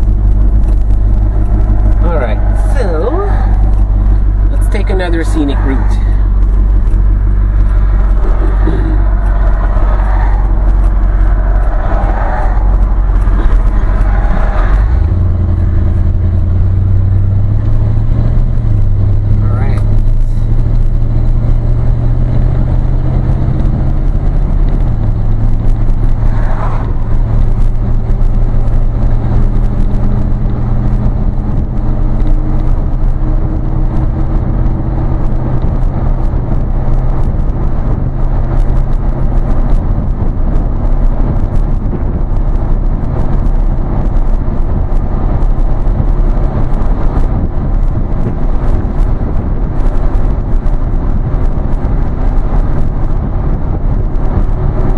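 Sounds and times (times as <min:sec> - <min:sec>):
tyre and road noise: 0:00.0 - 0:54.9
vehicle engine droning: 0:00.0 - 0:54.9.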